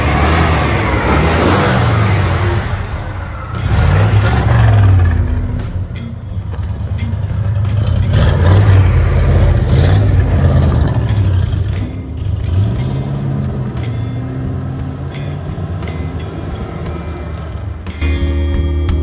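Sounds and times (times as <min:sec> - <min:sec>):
truck engine revving: 0:00.0 - 0:18.5.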